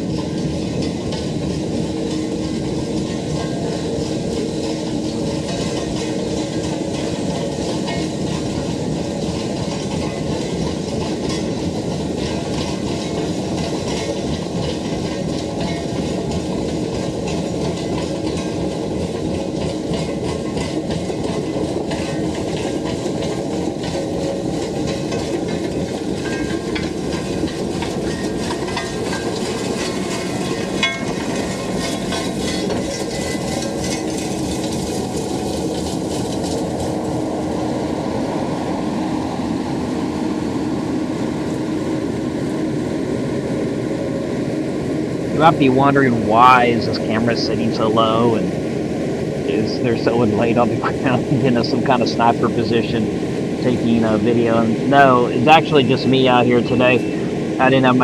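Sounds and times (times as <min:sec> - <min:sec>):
heavy machinery running: 0:00.0 - 0:58.0.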